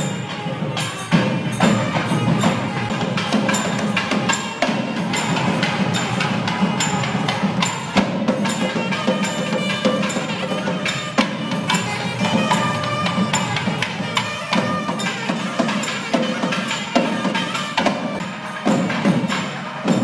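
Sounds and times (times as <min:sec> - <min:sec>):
percussion beat: 0:00.0 - 0:20.0.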